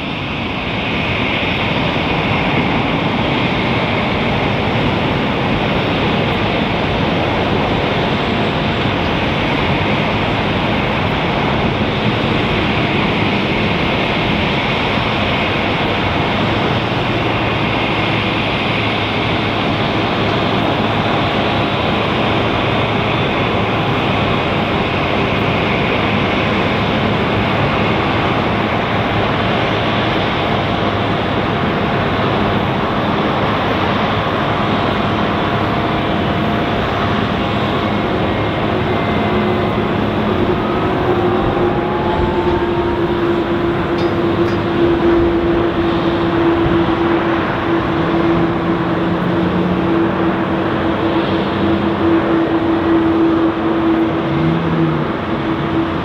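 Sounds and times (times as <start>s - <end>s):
jet aircraft rushing hiss: 0.0s - 56.0s.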